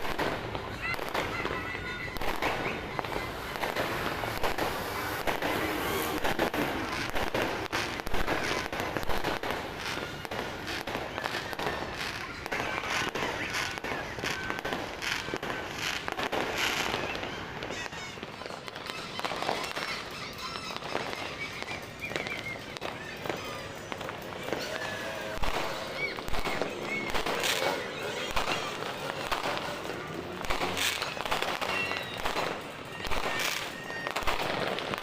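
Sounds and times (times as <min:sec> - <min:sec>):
firework whistles: 0:00.0 - 0:35.0
fireworks and firecrackers bangs: 0:00.0 - 0:35.0.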